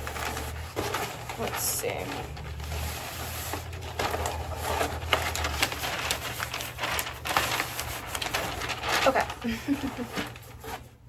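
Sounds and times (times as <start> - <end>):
wrapping paper rustling and crinkling: 0.0 - 11.0.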